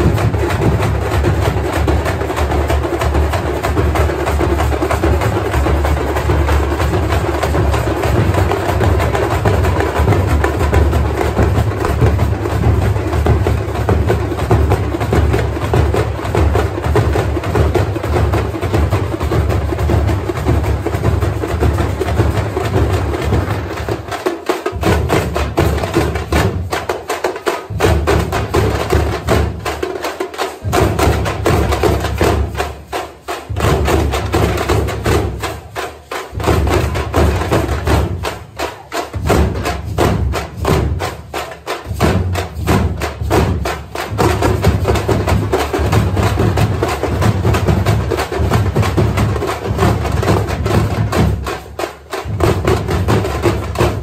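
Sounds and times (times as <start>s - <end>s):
deep drum beats: 0.0s - 27.1s, 30.6s - 54.0s
drum troupe playing: 0.0s - 54.0s.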